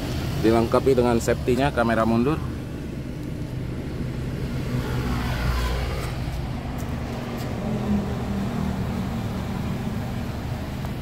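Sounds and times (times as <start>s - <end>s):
car engine idling: 0.0s - 5.2s, 5.8s - 11.0s.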